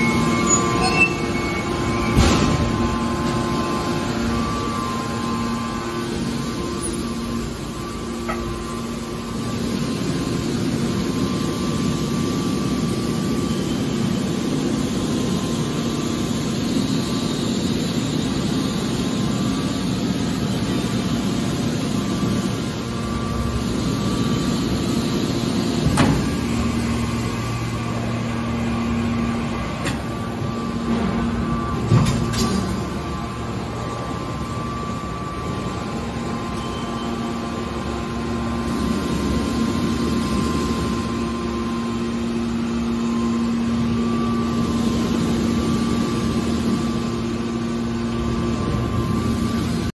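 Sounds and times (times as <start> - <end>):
industrial machine hum: 0.0 - 49.9.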